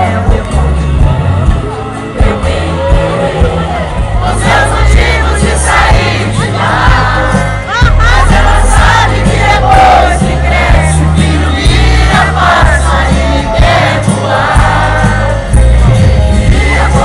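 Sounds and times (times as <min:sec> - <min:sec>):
crowd singing along: 0:00.0 - 0:17.0
live music over loudspeakers: 0:00.0 - 0:17.0.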